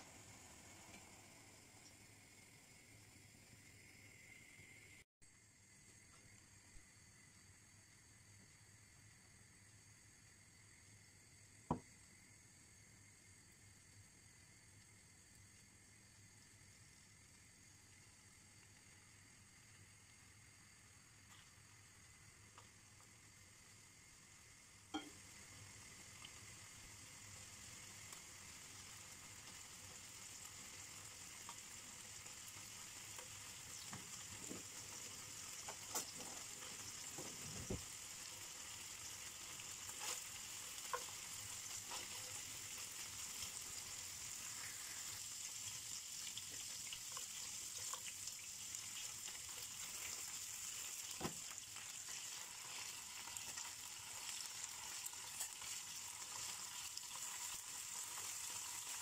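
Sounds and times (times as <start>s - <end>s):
fish sizzling in hot oil: 0.0s - 5.0s, 13.3s - 59.0s.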